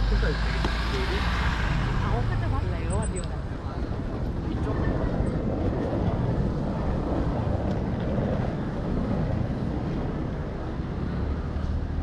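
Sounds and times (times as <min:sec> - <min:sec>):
low rumbling street noise: 0:00.0 - 0:12.0.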